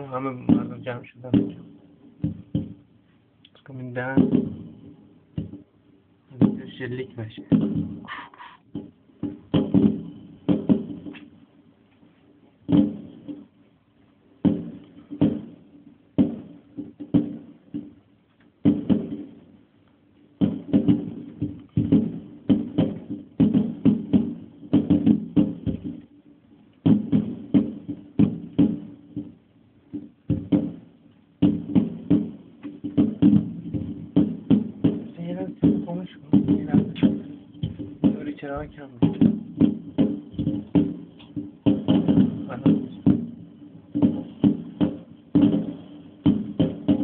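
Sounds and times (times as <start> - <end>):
fireworks bangs: 0.0 - 3.0, 3.7 - 5.7, 6.3 - 11.4, 12.6 - 13.6, 14.4 - 19.7, 20.3 - 47.0.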